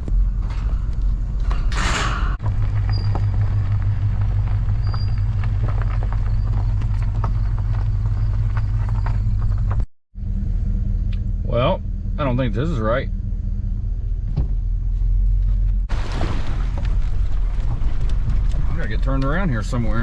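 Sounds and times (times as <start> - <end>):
vehicle low rumble from inside: 0.0 - 20.0.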